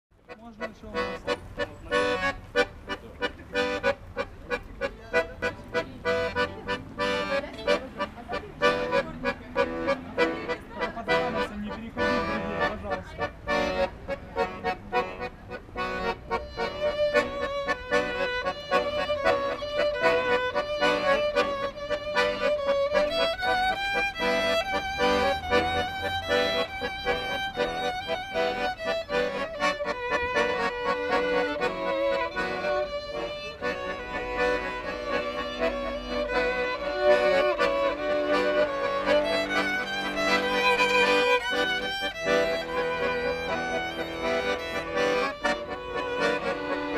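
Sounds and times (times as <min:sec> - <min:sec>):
accordion: 0:00.1 - 0:46.9
violin: 0:00.3 - 0:46.9.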